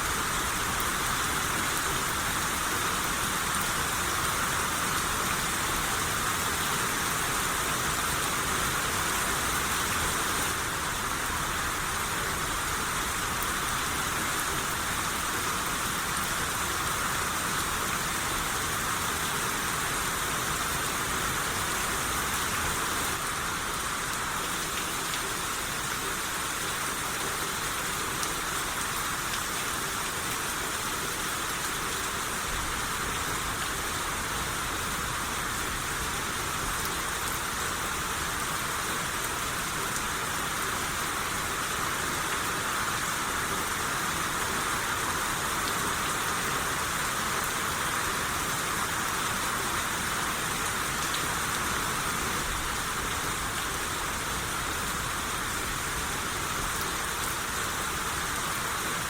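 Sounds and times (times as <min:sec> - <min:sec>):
rain hissing: 0:00.0 - 0:59.0.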